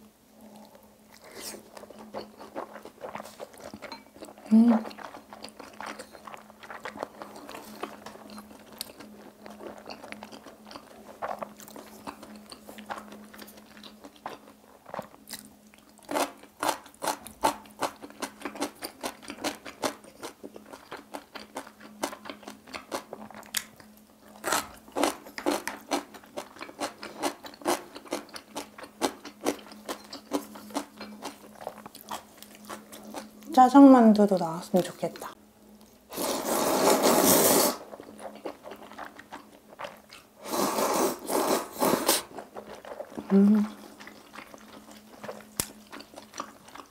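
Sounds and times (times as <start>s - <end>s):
wet chewing and mouth smacking: 0.5s - 33.6s, 37.8s - 40.4s, 42.1s - 46.9s.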